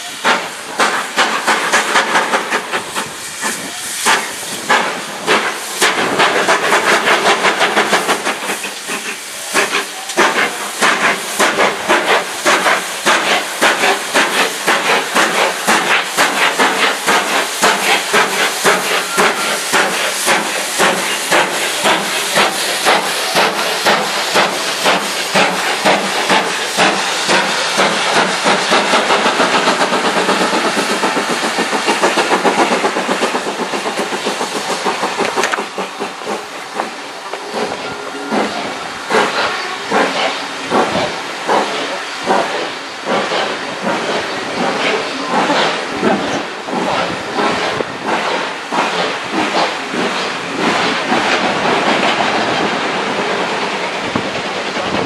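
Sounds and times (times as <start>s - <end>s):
hiss of steam: 0.0s - 55.0s
steam locomotive exhaust beats: 0.0s - 55.0s.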